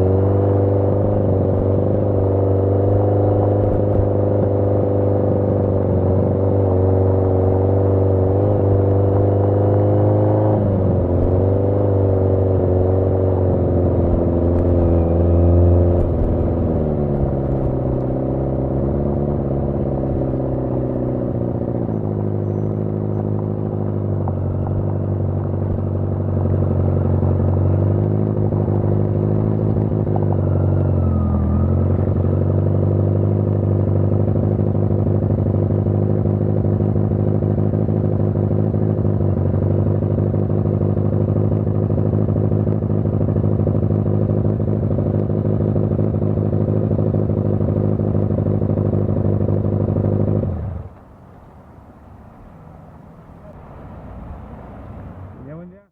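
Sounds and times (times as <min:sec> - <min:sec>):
motorcycle engine running: 0:00.0 - 0:51.3.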